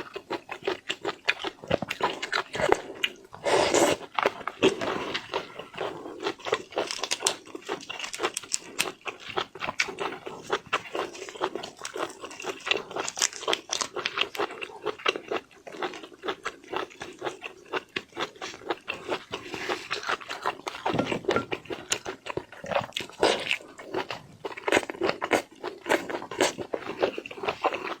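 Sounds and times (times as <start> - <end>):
person chewing and crunching food: 0.0 - 28.0.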